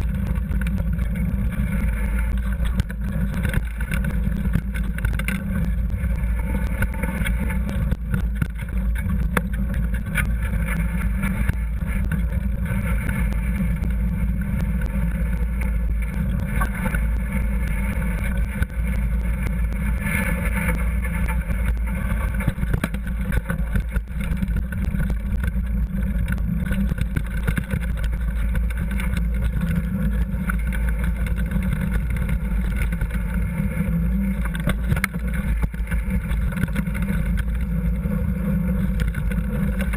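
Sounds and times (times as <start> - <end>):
bike tyres and frame rattling: 0.0 - 39.9.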